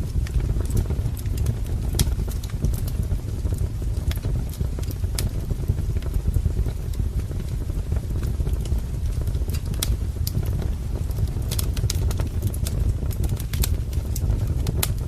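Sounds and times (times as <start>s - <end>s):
firewood popping and snapping: 0.0s - 15.0s
low rumble of flames: 0.0s - 15.0s.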